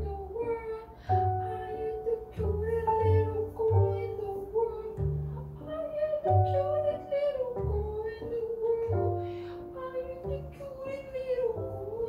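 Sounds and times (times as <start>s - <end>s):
held melody line: 0.0s - 12.0s
low bass notes: 0.0s - 12.0s.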